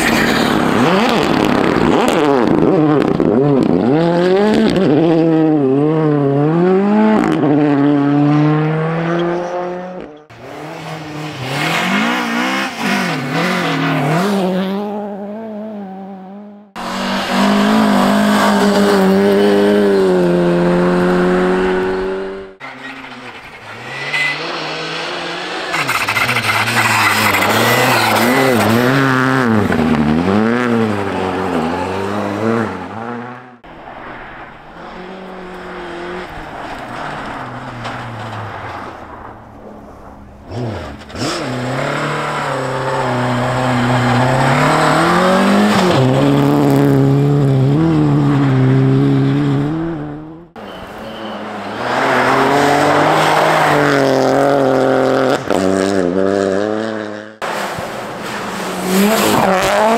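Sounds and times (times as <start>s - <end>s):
rally car accelerating: 0.0s - 59.9s
rally car engines revving: 0.0s - 59.9s.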